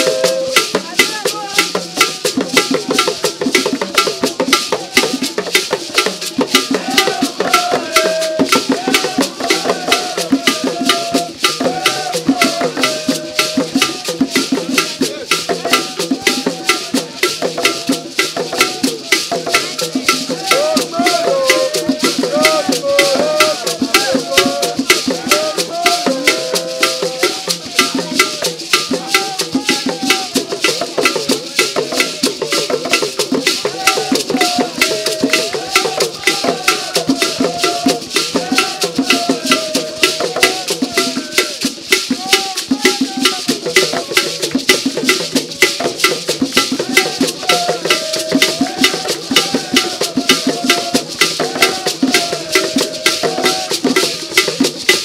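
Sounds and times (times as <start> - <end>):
hand drums playing fast rhythm: 0.0 - 55.0
shaker rattling: 0.0 - 55.0
voices singing: 0.0 - 55.0.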